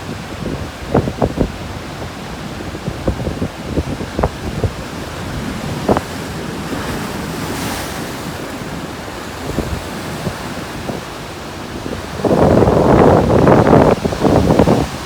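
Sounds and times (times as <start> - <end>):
surf churning against rocks: 0.0 - 15.0
wind buffeting microphone: 0.0 - 15.0.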